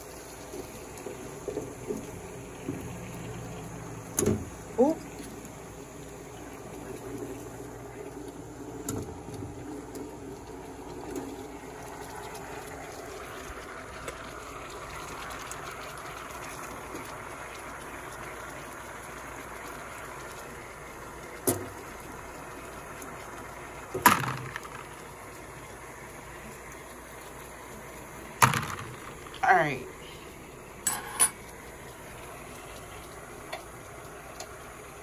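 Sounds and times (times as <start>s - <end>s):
water boiling in a wok: 0.0s - 35.0s.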